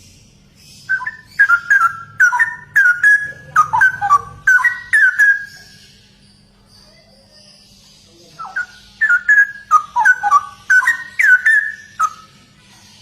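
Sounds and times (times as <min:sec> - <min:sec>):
bird whistling song: 0:00.0 - 0:12.5.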